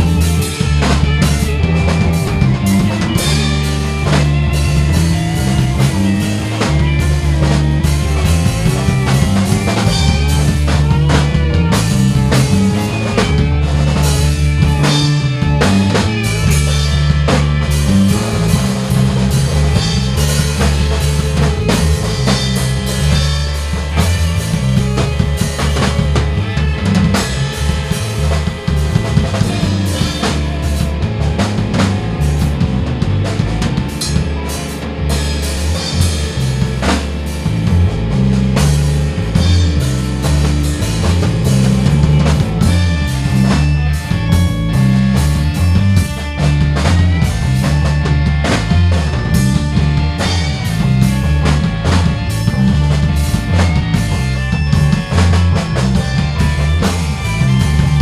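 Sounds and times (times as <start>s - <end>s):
drum kit: 0.0s - 58.0s
electric bass line: 0.0s - 58.0s
electric guitar: 0.0s - 58.0s
organ: 0.0s - 58.0s.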